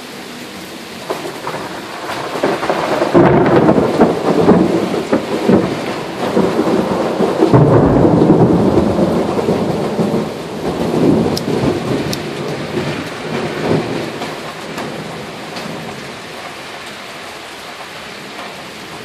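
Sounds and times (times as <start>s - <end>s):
steady rain: 0.0s - 19.0s
thunder rolling: 1.0s - 19.0s.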